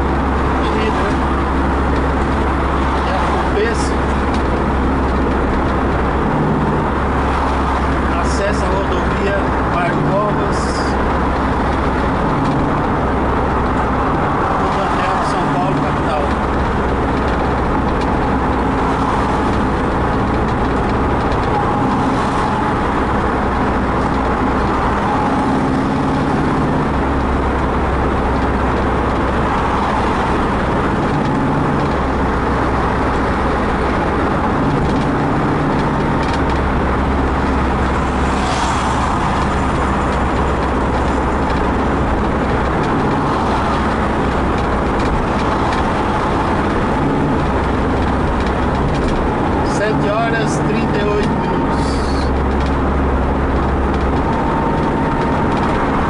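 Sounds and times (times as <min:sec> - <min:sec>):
car driving heard from inside: 0:00.0 - 0:56.0
low hum: 0:00.0 - 0:56.0.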